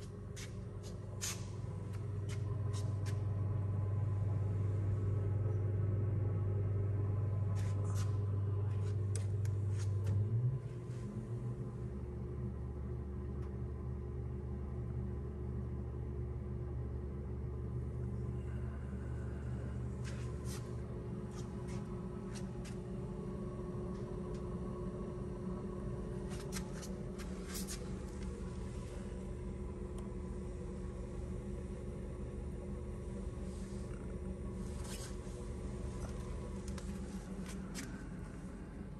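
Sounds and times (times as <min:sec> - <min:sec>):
boiler and pump humming: 0:00.0 - 0:38.9.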